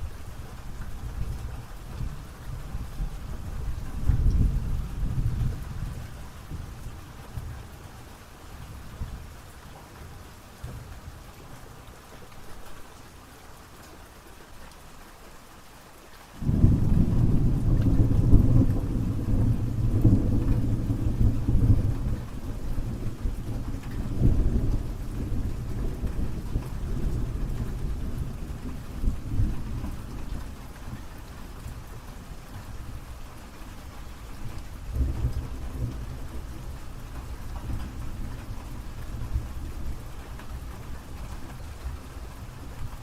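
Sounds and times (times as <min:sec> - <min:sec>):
low rumble of thunder: 0:00.0 - 0:07.9, 0:08.6 - 0:09.4, 0:16.4 - 0:43.0
steady rain: 0:00.0 - 0:43.0.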